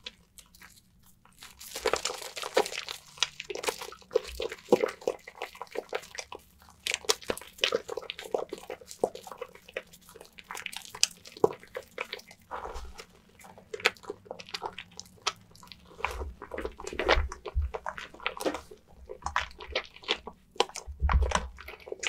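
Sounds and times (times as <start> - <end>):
wet soap squishing: 0.0 - 22.0.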